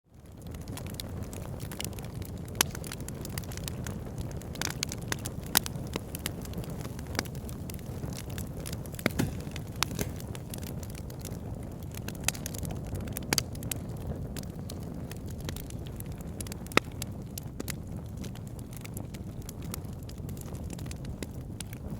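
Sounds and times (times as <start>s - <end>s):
logs crackling and popping: 0.1s - 21.9s
low rumble of flames: 0.1s - 21.9s.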